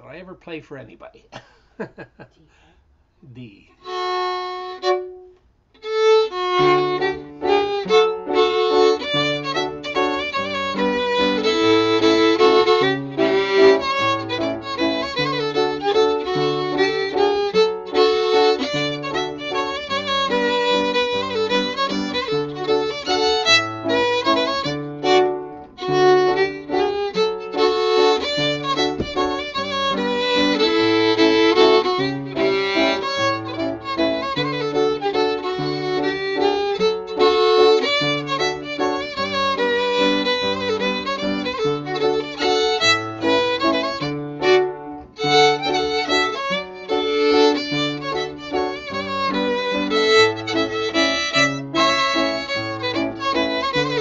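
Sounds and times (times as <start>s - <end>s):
fiddle playing lively dance melody: 3.8s - 54.0s
piano accompaniment: 3.8s - 54.0s.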